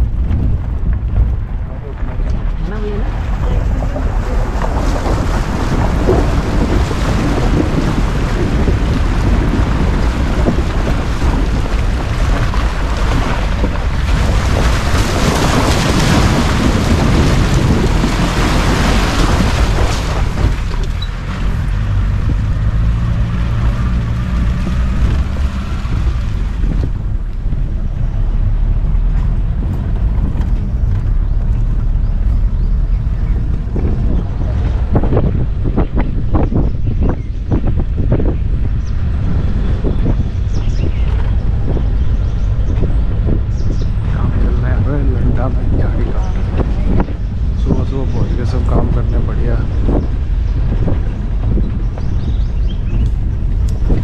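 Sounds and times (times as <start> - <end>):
jeep engine running: 0.0 - 54.0
wind noise on microphone: 0.0 - 54.0.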